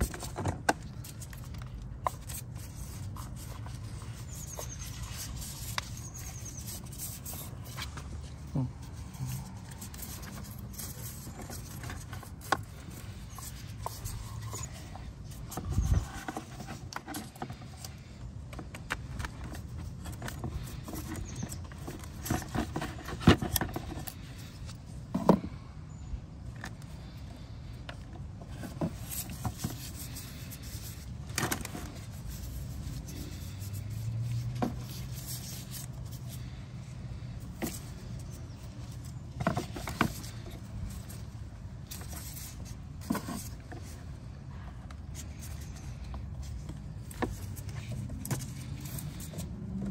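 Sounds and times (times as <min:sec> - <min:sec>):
hands scraping and rubbing: 0:00.0 - 0:25.1, 0:28.4 - 0:49.9.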